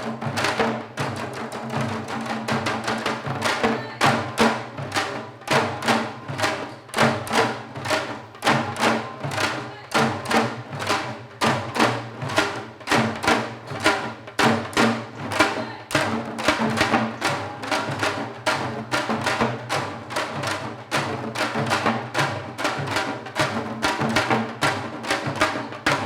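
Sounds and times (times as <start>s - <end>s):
hourglass drum fast rhythm: 0.0s - 26.0s.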